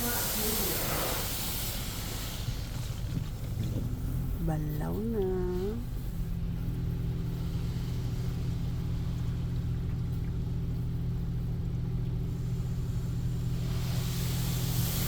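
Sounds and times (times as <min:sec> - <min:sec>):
car wash machinery humming: 0:00.0 - 0:15.0.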